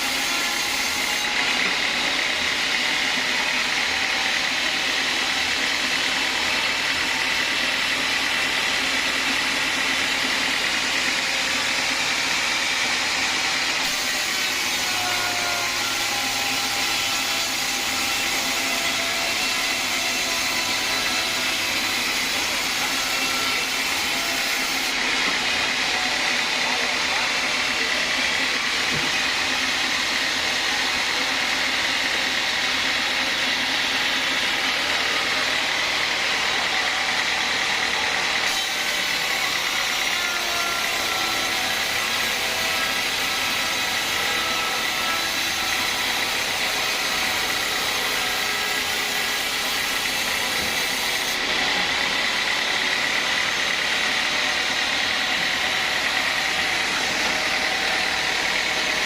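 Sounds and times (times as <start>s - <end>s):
band saw running: 0.0s - 59.0s.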